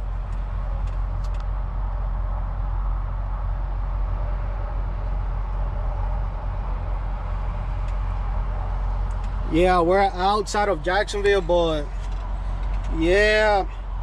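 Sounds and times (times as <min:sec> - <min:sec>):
road noise: 0:00.0 - 0:14.0
truck engine droning: 0:00.0 - 0:14.0.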